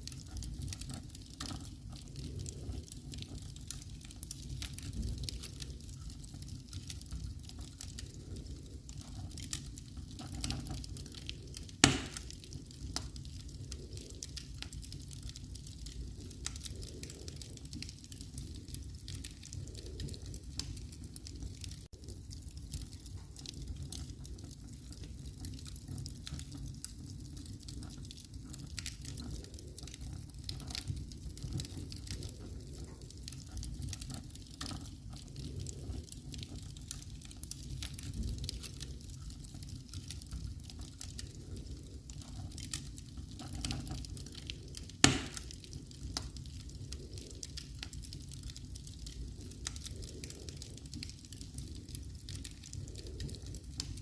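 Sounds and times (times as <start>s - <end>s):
fire crackling and popping: 0.0s - 54.0s
low rumble of flames: 0.0s - 54.0s.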